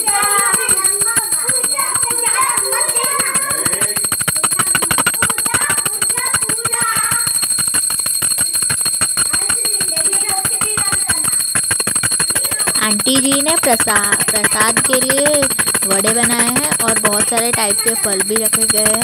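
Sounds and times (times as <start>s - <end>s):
small brass hand bell ringing: 0.0s - 19.0s.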